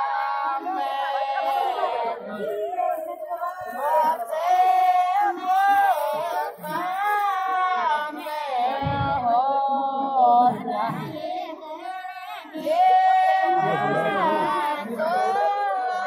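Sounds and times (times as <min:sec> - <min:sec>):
women singing folk song: 0:00.0 - 0:16.0.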